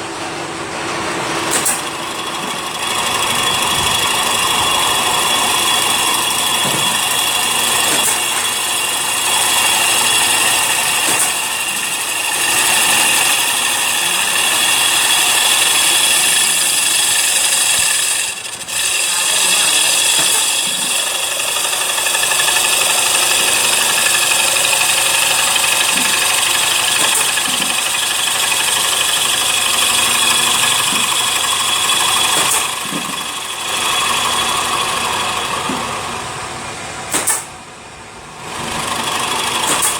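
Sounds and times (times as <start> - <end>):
wood lathe whining: 1.5 - 36.8, 38.4 - 39.9.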